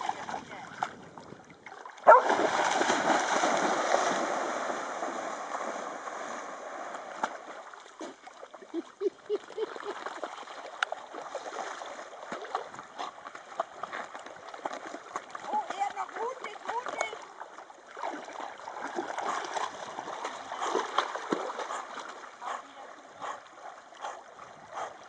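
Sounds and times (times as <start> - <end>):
dogs splashing through water: 0.0 - 25.0.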